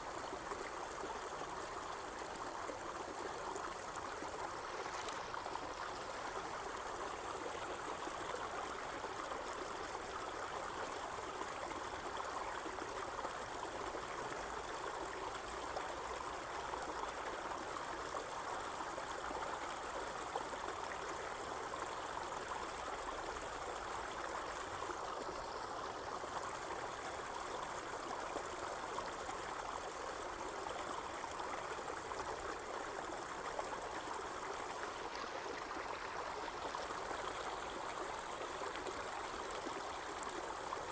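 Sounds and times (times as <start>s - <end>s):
water rushing and trickling: 0.0s - 40.9s.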